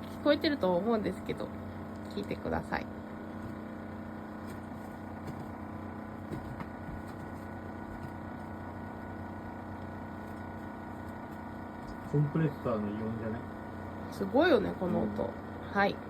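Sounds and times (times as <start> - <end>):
refrigerator humming loudly: 0.0 - 16.0.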